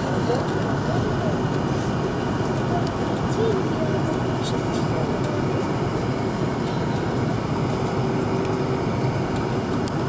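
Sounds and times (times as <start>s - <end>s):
airplane cabin engine roar: 0.0s - 10.0s.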